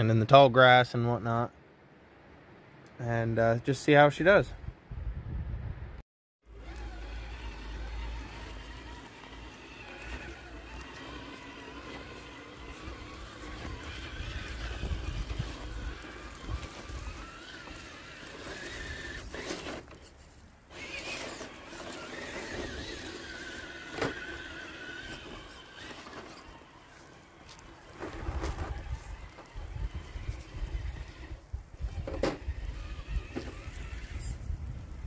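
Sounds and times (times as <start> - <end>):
electric motor and gears whining: 6.4 - 35.0.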